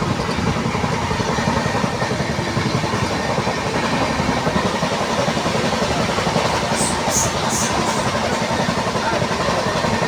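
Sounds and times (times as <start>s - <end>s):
train coach rattling: 0.0s - 10.0s
train wheels rumbling on rails: 0.0s - 10.0s.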